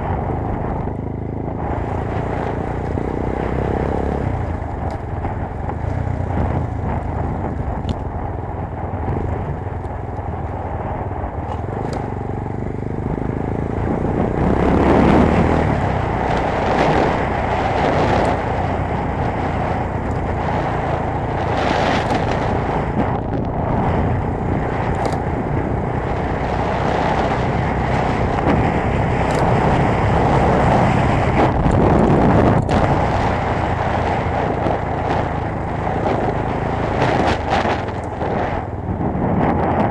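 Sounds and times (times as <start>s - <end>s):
motorcycle engine running hard: 0.0s - 39.9s
wind rush: 0.0s - 39.9s.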